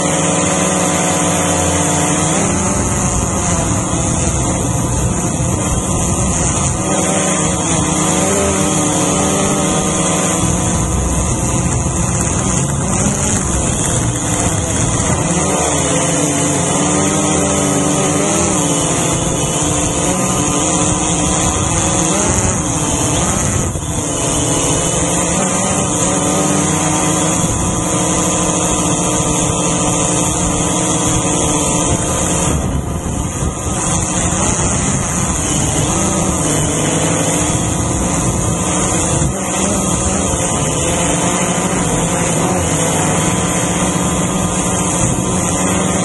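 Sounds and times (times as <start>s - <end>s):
drone motors buzzing whine: 0.0s - 46.0s.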